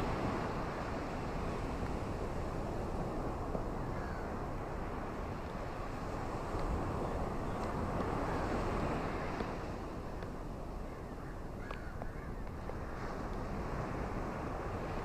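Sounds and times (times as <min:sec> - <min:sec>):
sea waves washing onto beach: 0:00.0 - 0:10.9, 0:12.4 - 0:15.0.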